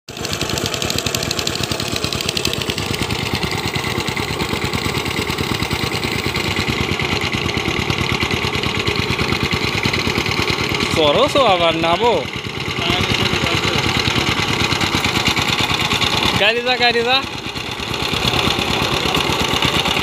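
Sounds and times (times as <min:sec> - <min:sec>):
diesel tiller engine running: 0:00.1 - 0:20.0.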